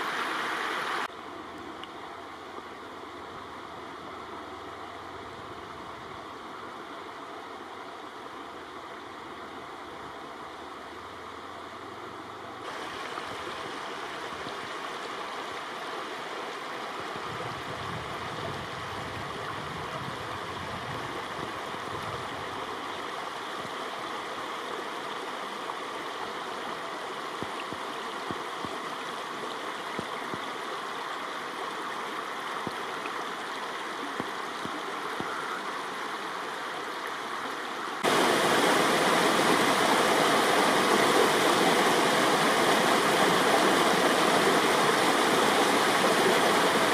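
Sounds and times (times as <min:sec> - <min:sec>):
stream flowing: 0:00.0 - 0:46.9.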